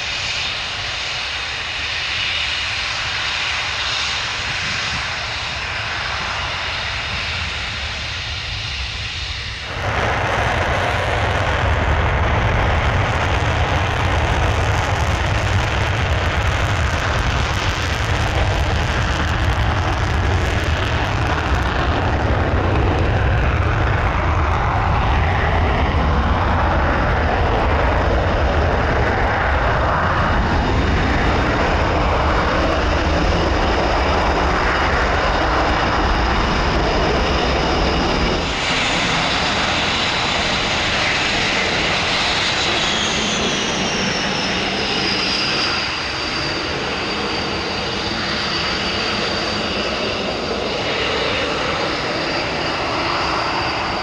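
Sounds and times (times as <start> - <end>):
jet engines roaring on takeoff: 0.0 - 54.0
jet engines whining while taxiing: 0.0 - 54.0.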